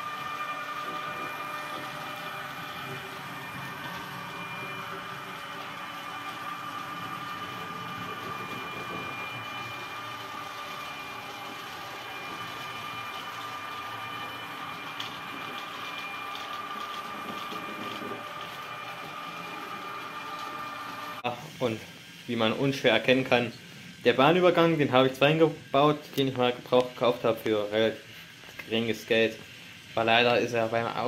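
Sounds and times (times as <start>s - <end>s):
model train electric whine: 0.0s - 31.0s.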